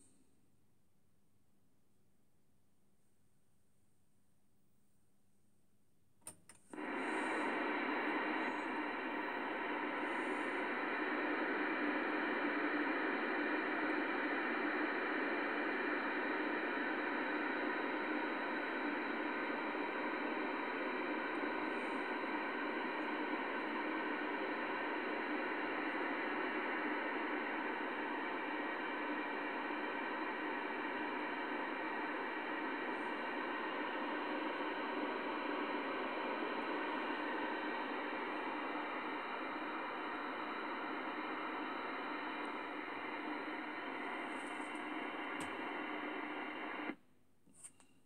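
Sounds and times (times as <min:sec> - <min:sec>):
radio receiver hissing: 0:06.7 - 0:47.0.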